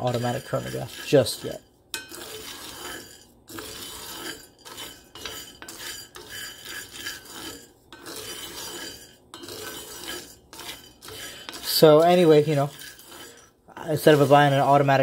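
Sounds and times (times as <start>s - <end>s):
coffee beans rattling in skillet: 0.0s - 15.0s.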